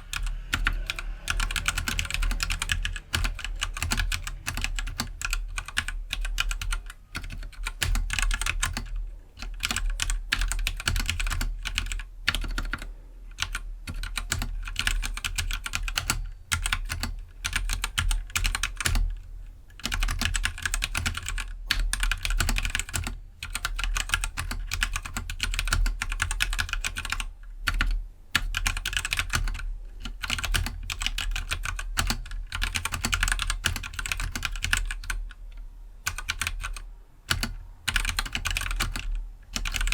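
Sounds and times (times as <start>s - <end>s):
typing on mechanical keyboard: 0.0s - 35.4s, 36.0s - 39.9s.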